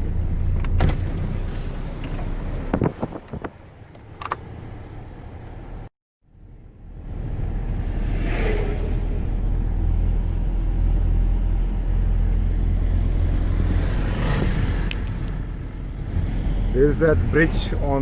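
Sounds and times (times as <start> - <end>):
road traffic rumble: 0.0 - 18.0
vehicles passing: 0.0 - 18.0
wind: 0.0 - 18.0.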